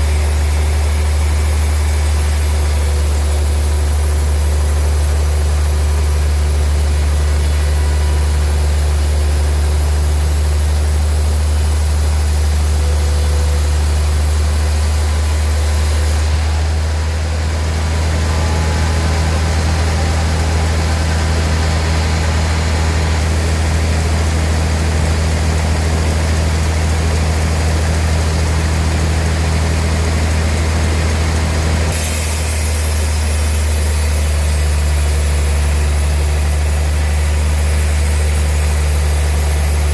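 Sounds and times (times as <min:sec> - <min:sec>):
high hiss: 0:00.0 - 0:39.9
sawmill machinery drone: 0:00.0 - 0:39.9.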